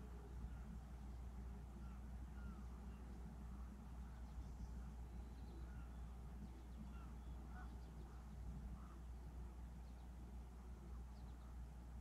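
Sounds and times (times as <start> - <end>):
faint bird calls: 0.0 - 12.0
low steady rumble: 0.0 - 12.0.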